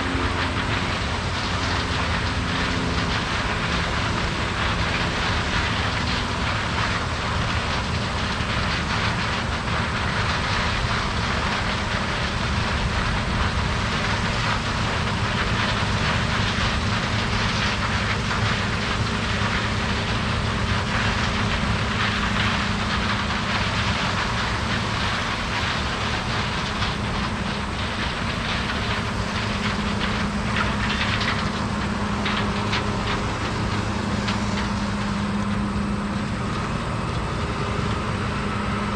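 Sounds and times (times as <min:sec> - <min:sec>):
low engine drone: 0:00.0 - 0:38.9.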